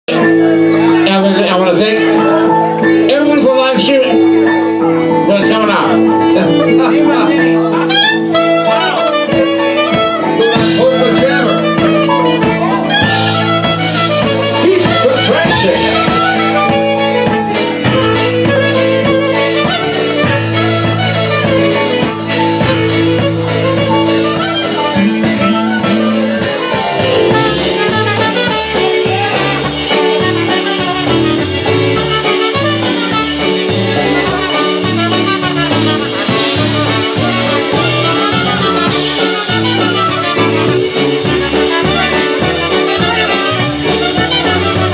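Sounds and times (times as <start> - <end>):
accordion: 0.1 - 44.9
clarinet: 4.0 - 44.9
trumpet: 4.0 - 44.9
electric bass: 5.0 - 44.9
drum kit: 5.8 - 44.9.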